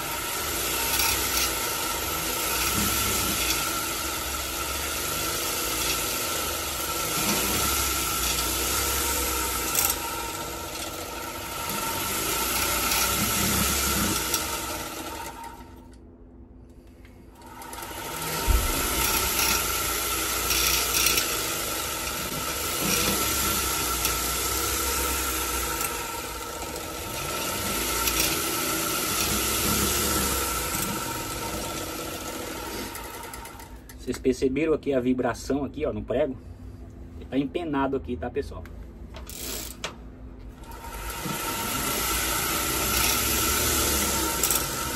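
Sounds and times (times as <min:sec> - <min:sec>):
motor whirring with rattling: 0:00.0 - 0:16.1, 0:16.7 - 0:34.2, 0:39.1 - 0:44.9.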